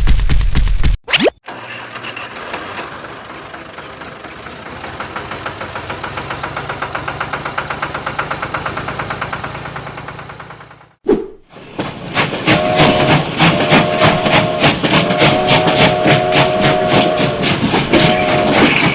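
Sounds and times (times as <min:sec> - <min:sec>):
tractor engine chugging: 0:01.5 - 0:11.0, 0:12.2 - 0:18.9.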